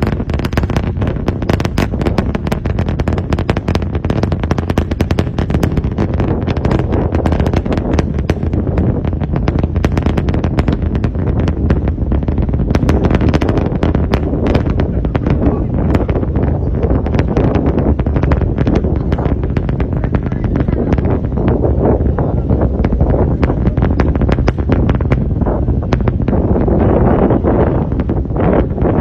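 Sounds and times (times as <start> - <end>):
rocket engines rumbling and crackling: 0.0 - 29.0.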